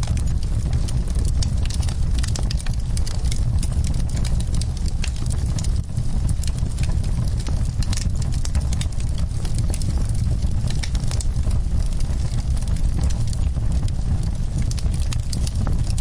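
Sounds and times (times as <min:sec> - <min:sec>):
burning wood crackling and popping: 0:00.0 - 0:16.0
wood fire rumbling: 0:00.0 - 0:16.0.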